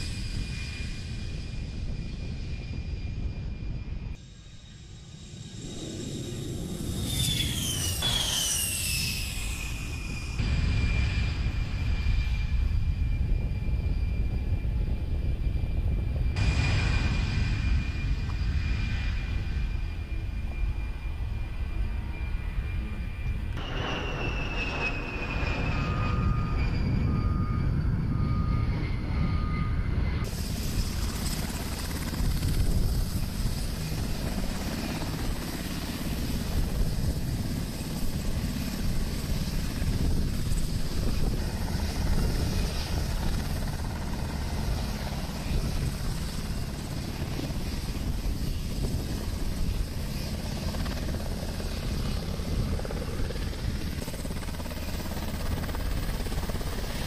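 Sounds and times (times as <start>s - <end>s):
helicopter rotor and turbine noise: 0.0s - 57.0s
jet engines whining overhead: 0.0s - 57.0s.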